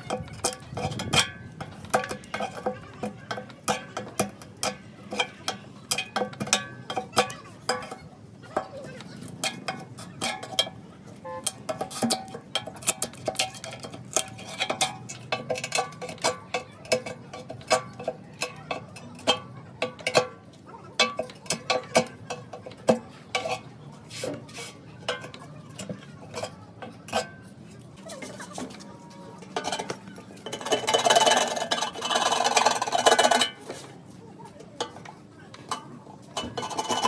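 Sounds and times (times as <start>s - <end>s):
metal tools clinking: 0.0s - 33.9s.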